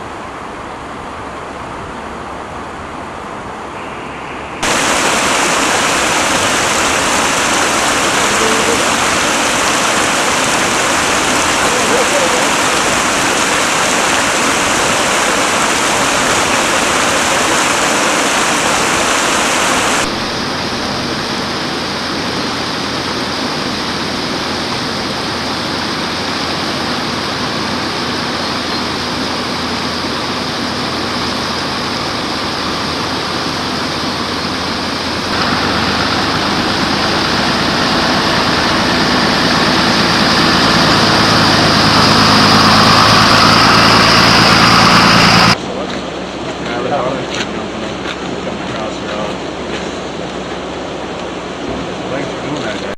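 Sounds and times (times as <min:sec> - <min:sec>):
floodwater rushing: 0:00.0 - 0:52.9
engine idling: 0:03.8 - 0:46.8.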